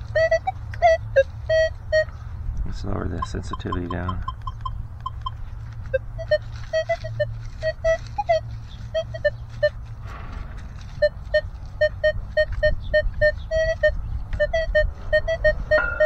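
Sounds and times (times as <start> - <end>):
metal detector beeps: 0.2 - 2.1, 3.1 - 9.8, 11.0 - 16.0.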